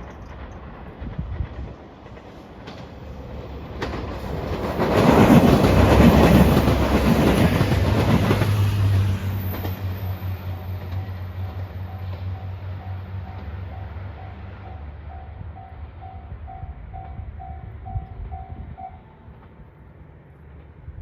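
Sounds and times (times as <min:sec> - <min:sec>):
train wheels rushing on rail: 0:00.0 - 0:21.0.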